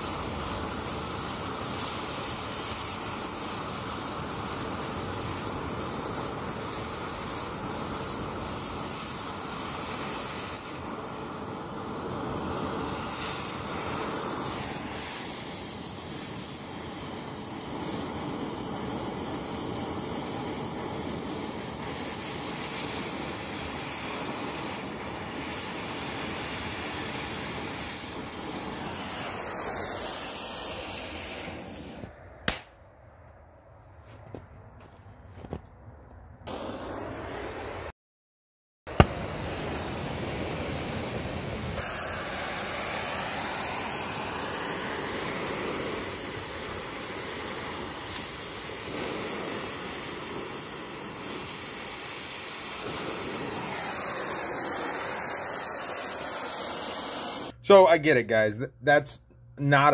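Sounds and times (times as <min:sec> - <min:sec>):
gas torch flame hissing: 0:00.0 - 0:32.6, 0:36.5 - 0:37.9, 0:38.9 - 0:57.6
torch shut-off pop: 0:00.0 - 0:32.7, 0:36.5 - 0:37.1, 0:38.9 - 0:40.5, 0:41.8 - 0:57.5.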